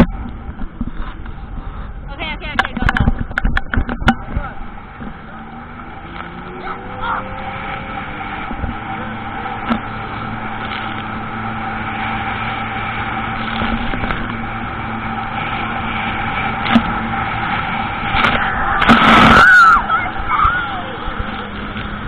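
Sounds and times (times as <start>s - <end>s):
jet ski engine droning: 0.0s - 22.0s.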